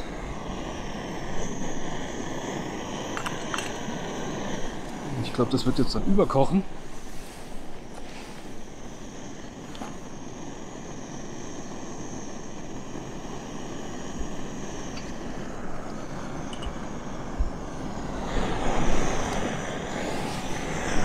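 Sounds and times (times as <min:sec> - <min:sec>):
gas stove burner roaring: 0:00.0 - 0:21.0.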